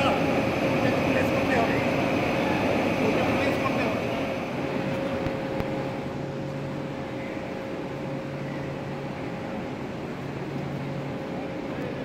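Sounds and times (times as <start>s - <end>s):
locomotive machinery humming: 0.0s - 12.0s
lower intermittent hum: 0.0s - 12.0s.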